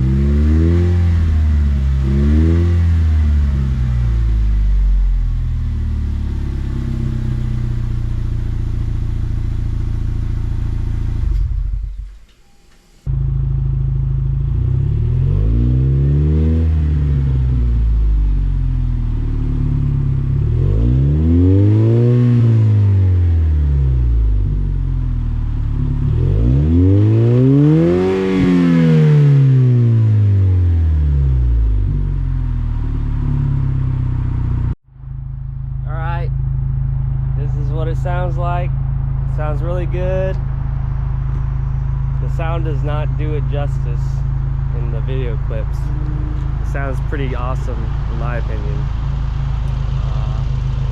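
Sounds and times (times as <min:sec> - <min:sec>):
car exhaust drone and revs: 0:00.0 - 0:50.9.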